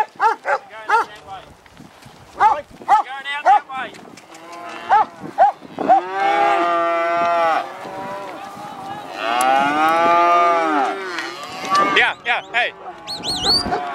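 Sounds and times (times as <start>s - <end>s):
calves bawling: 0.0s - 1.2s, 2.4s - 13.9s.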